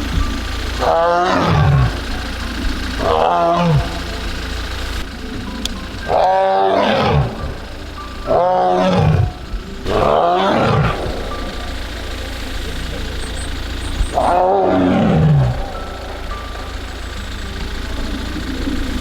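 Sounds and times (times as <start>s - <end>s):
tiger calling: 0.0s - 19.0s.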